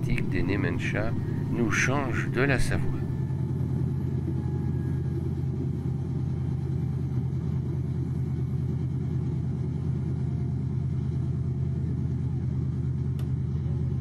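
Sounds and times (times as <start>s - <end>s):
helicopter engine drone: 0.0s - 11.9s.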